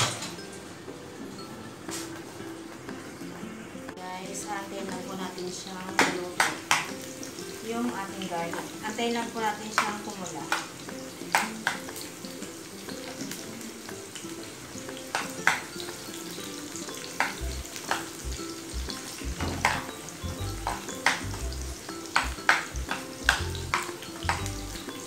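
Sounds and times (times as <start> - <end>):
garlic sizzling in oil: 0.2 - 25.0.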